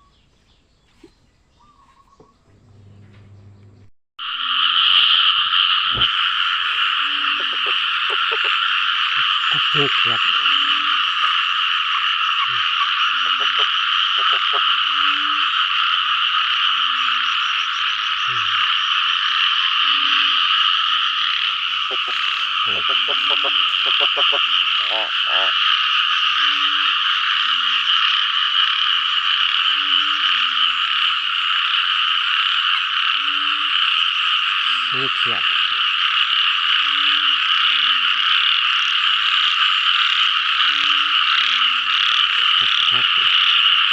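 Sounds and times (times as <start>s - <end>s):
deep short frog calls: 4.2s - 43.9s
high-pitched frog chorus: 4.2s - 43.9s.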